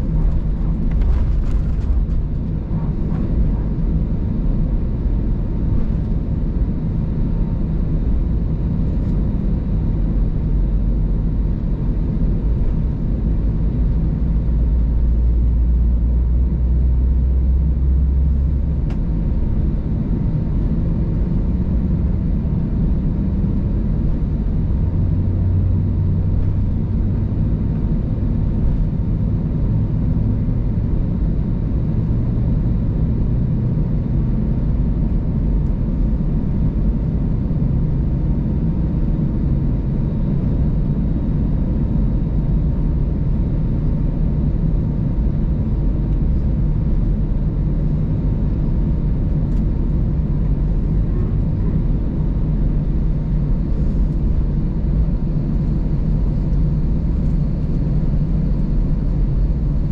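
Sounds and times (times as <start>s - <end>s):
aircraft engine rumble and hum: 0.0s - 59.9s
faint steady whine: 0.0s - 59.9s.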